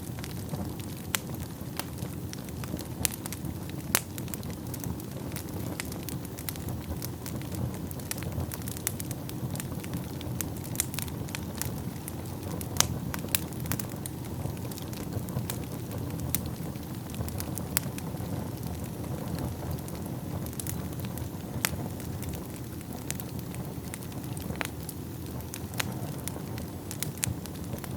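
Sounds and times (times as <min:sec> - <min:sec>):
low rumble of flames: 0:00.0 - 0:27.9
wood fire crackling and popping: 0:00.0 - 0:27.9.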